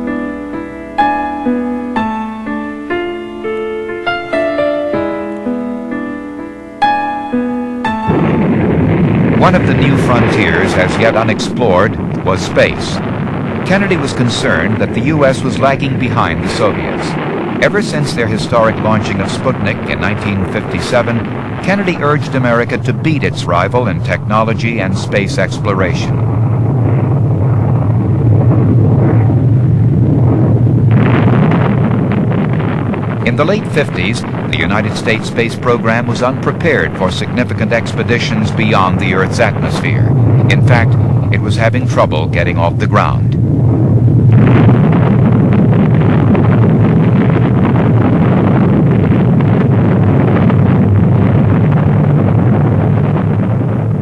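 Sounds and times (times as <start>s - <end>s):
rocket engine deep rumble: 0.0s - 54.0s.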